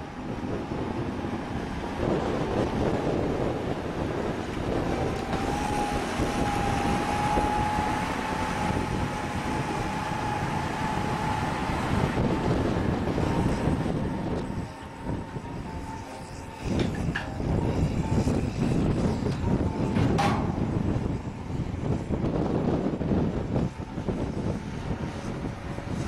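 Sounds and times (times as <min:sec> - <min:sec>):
steady whine: 0:00.0 - 0:26.0
tractor engine rumbling: 0:00.0 - 0:26.0.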